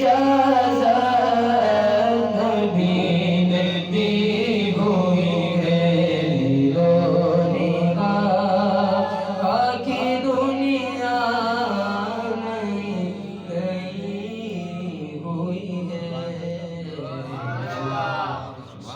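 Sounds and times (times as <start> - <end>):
man chanting devotional melody: 0.0 - 17.8.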